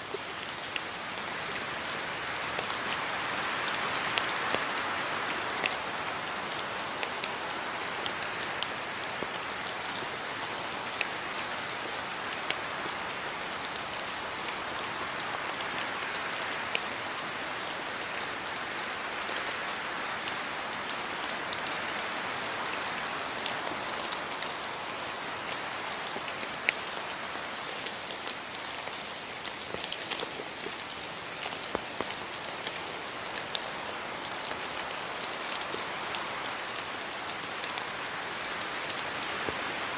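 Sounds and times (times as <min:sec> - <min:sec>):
rain falling: 0:00.0 - 0:39.9
raindrops ticking on hard surfaces: 0:00.0 - 0:39.9.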